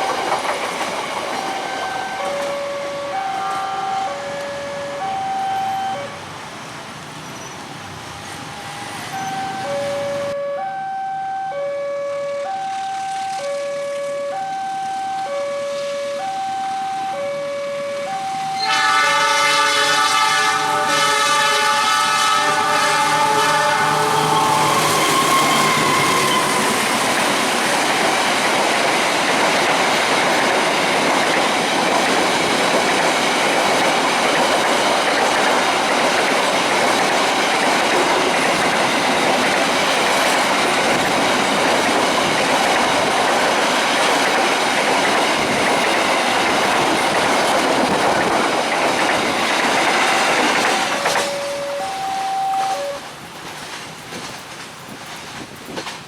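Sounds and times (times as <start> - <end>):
train wheels on rails: 0.0 - 10.8, 12.3 - 56.0.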